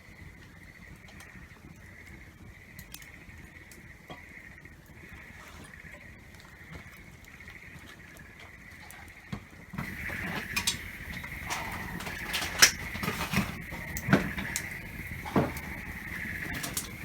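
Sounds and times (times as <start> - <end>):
campfire crackling and popping: 0.3 - 17.0.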